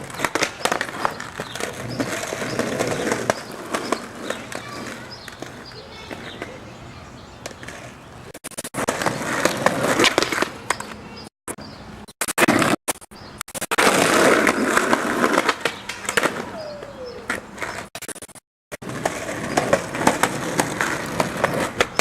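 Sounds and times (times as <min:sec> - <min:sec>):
skateboard popping and landing: 0:00.0 - 0:06.6, 0:07.4 - 0:11.0, 0:12.2 - 0:22.0
skateboard wheels rolling: 0:00.0 - 0:11.8, 0:12.4 - 0:17.9, 0:18.8 - 0:22.0.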